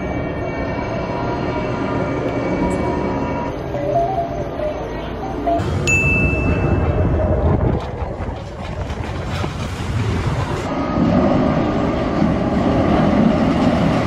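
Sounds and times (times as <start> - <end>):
roller coaster rumbling and clattering: 0.3 - 14.0.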